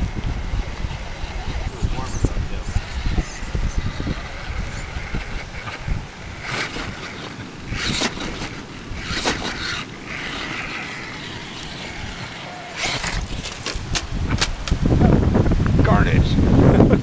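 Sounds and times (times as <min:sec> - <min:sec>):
rc car motor whirring: 0:00.0 - 0:14.9.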